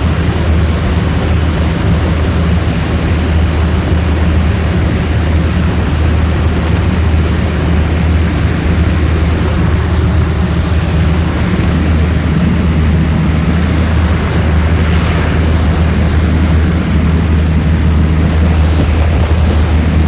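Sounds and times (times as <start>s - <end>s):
propeller aircraft engine droning: 0.0s - 20.0s
rush of airflow: 0.0s - 20.0s.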